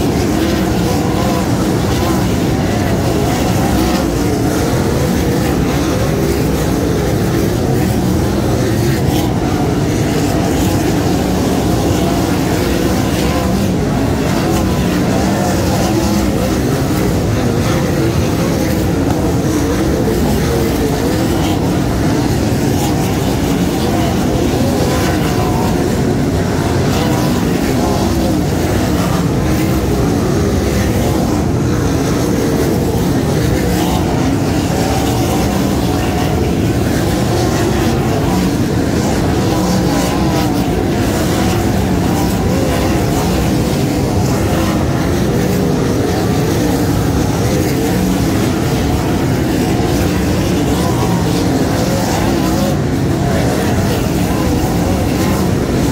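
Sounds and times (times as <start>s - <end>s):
racing car engines: 0.0s - 55.9s.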